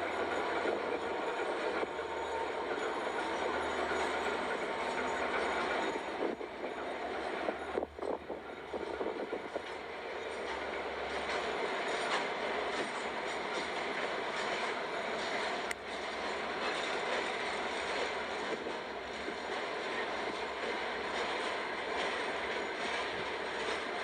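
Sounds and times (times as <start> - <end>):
freight train wheels clattering: 0.0 - 24.0.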